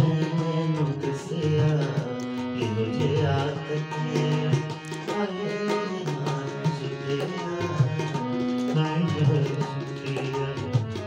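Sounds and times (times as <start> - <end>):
harmonium melody: 0.0 - 11.0
tabla strikes: 0.0 - 11.0.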